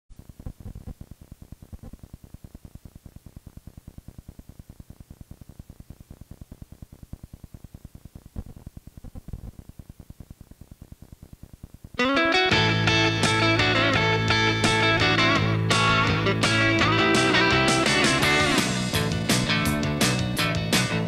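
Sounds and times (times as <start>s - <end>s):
tape hiss: 0.1s - 21.0s.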